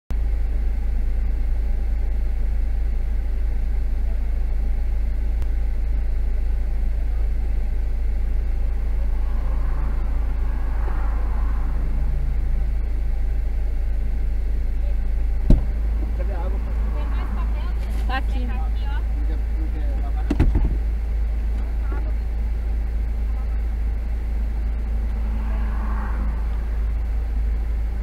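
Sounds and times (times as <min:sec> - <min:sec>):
low rumble inside car: 0:00.1 - 0:28.0
passing vehicle: 0:01.2 - 0:28.0.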